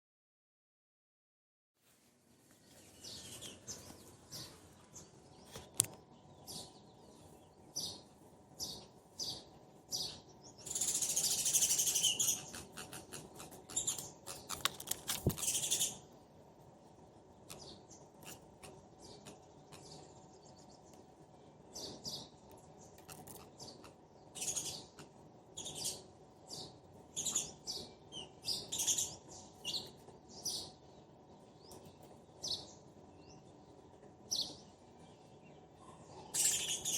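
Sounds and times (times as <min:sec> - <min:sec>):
sparrows chirping: 0:02.6 - 0:16.2, 0:17.2 - 0:36.9.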